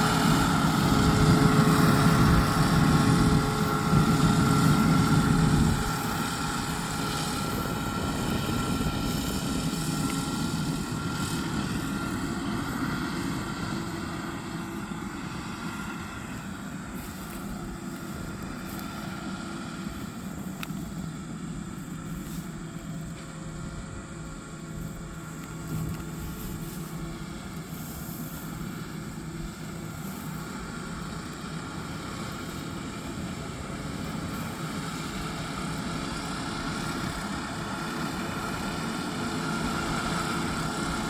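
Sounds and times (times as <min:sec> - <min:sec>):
combine harvester droning: 0:00.0 - 0:41.0.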